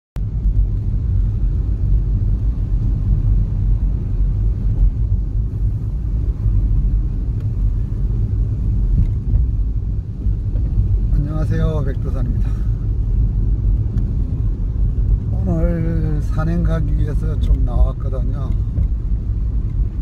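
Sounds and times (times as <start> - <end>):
car engine and tyre rumble: 0.2 - 20.0.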